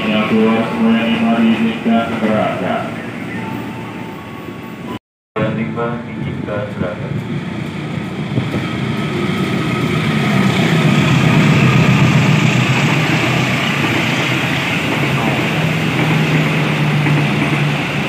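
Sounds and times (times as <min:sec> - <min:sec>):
coaches rumbling on rails: 0:00.0 - 0:18.0
diesel locomotive engine hum: 0:00.0 - 0:18.0.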